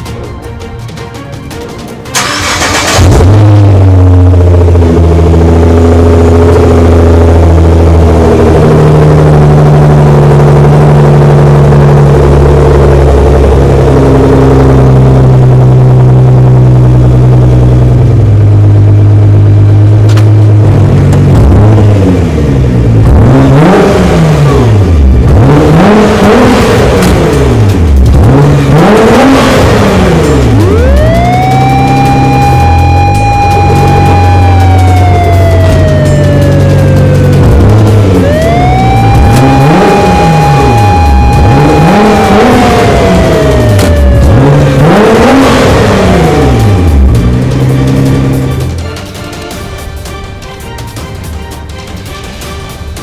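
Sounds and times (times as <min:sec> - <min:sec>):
car engine revving: 0:02.1 - 0:49.0.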